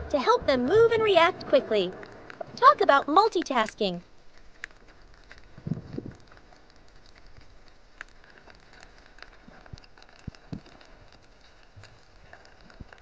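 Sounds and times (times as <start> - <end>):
underwater clicks and crackles: 1.9 - 13.0.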